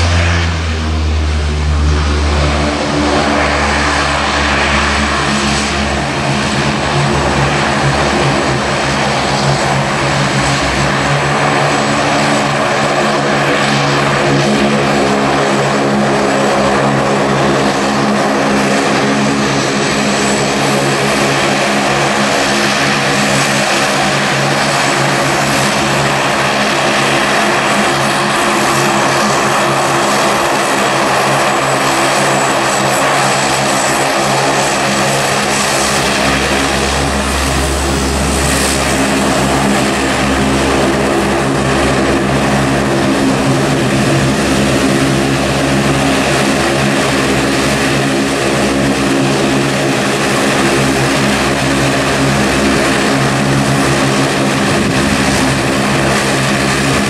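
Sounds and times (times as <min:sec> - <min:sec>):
turboprop engines droning: 0:00.0 - 0:57.0.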